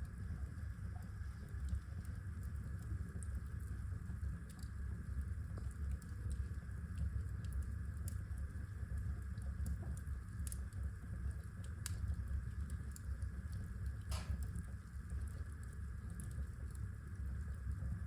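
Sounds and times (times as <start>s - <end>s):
fire low rumble: 0.0s - 18.0s
wood fire crackling: 0.0s - 18.0s.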